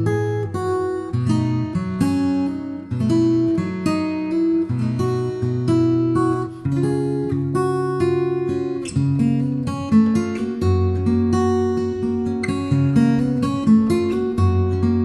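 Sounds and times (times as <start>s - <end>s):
fingerpicked acoustic guitar: 0.0s - 15.0s.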